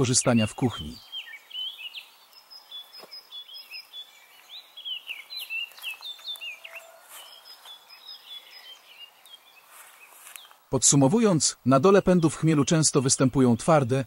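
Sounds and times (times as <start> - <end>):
faint outdoor hiss: 0.0 - 14.0
songbirds chirping: 0.0 - 14.0.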